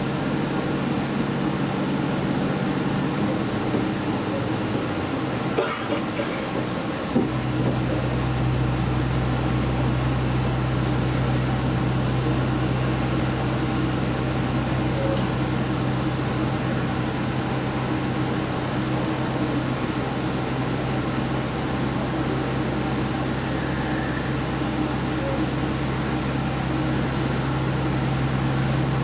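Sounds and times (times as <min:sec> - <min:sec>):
train interior drone: 0:00.0 - 0:29.0
train running noise: 0:00.0 - 0:29.0.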